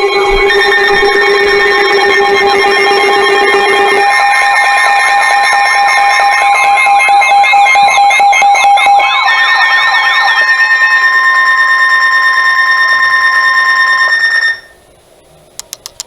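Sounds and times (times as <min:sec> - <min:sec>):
steady beeping tones: 0:00.0 - 0:14.7
steady high alarm tones: 0:00.0 - 0:14.8
warbling siren-like alarm: 0:00.0 - 0:14.8.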